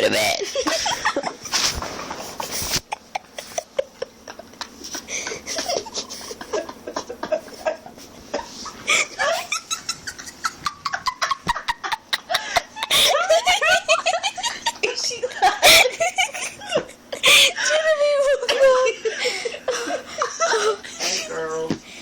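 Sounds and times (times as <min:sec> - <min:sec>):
laughter and giggling: 0:00.2 - 0:01.6, 0:02.4 - 0:21.5.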